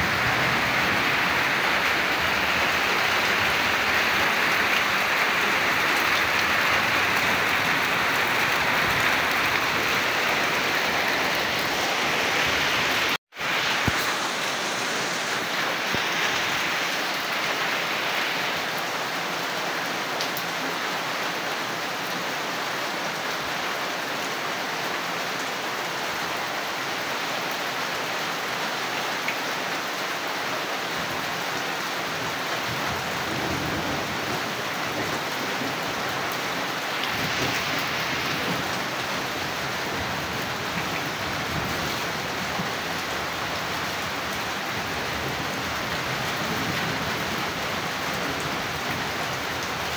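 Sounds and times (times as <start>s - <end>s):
rain splashing on puddles: 0.0s - 49.9s.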